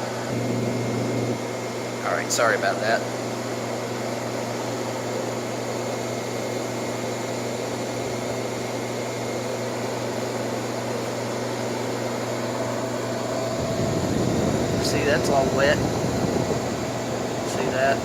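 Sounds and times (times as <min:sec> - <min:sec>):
air conditioner blower rushing: 0:00.0 - 0:18.0.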